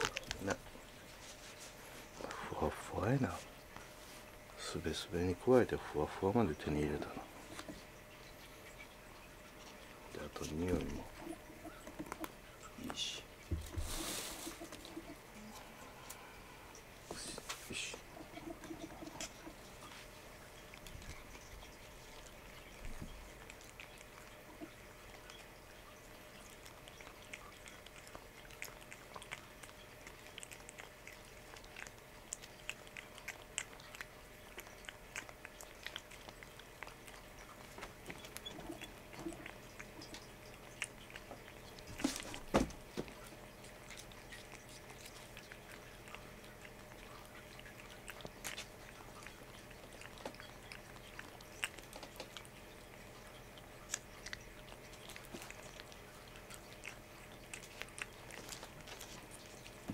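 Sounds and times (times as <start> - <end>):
cat licking: 0.0 - 59.9.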